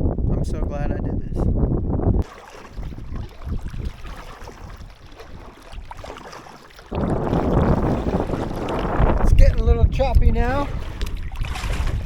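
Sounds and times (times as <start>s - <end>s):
wind buffeting the microphone: 0.0s - 12.0s
water lapping against a kayak: 2.0s - 12.0s.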